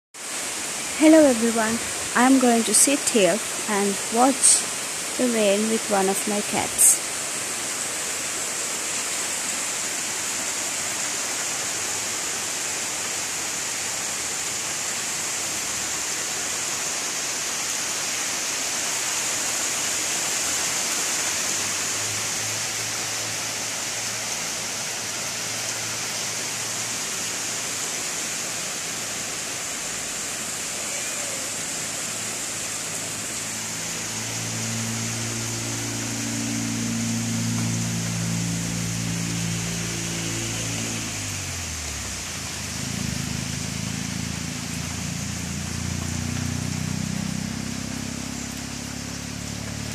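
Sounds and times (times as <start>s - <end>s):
steady rain falling: 0.2s - 49.9s.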